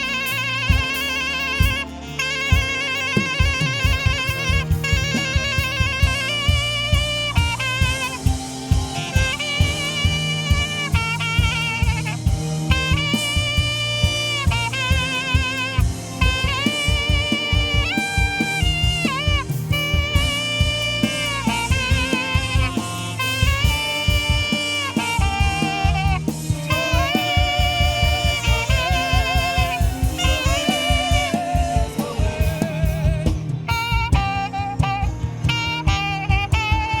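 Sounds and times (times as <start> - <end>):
bass groove: 0.0 - 37.0
drum kit groove: 0.0 - 37.0
saxophone solo with vibrato: 0.0 - 37.0.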